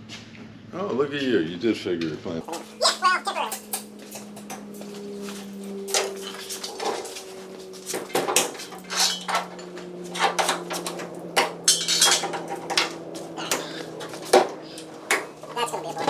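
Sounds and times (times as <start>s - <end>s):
steady low hum: 2.4s - 16.0s
metal clamps clinking: 2.5s - 16.0s.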